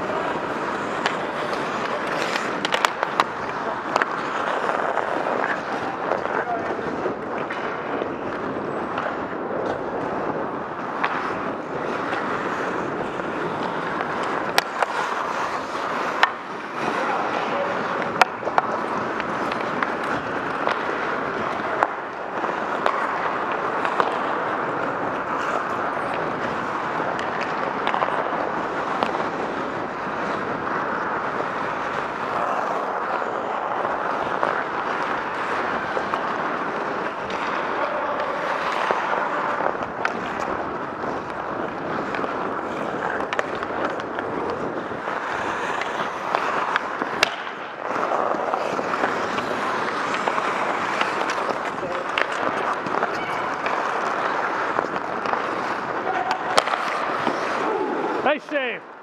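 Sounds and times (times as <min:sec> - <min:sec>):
hockey sticks and puck clacking: 0:00.0 - 0:59.0
skates scraping on ice: 0:00.0 - 0:59.0
rink noise: 0:09.7 - 0:58.8.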